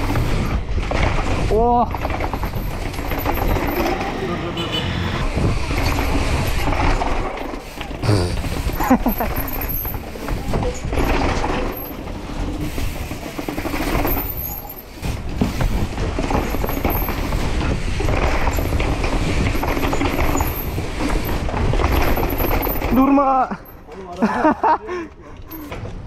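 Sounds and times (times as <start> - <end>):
chain and frame rattling: 0.0 - 4.4, 5.3 - 26.0.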